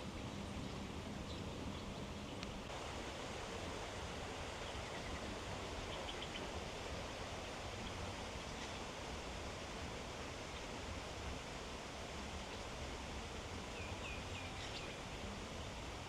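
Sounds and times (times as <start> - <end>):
hiss-like garden ambience: 0.0 - 16.0.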